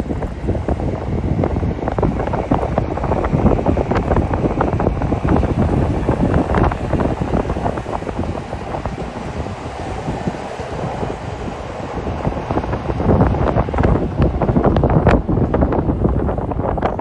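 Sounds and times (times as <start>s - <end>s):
train wheels clattering on rails: 0.0s - 17.0s
wind buffeting microphone: 0.0s - 17.0s.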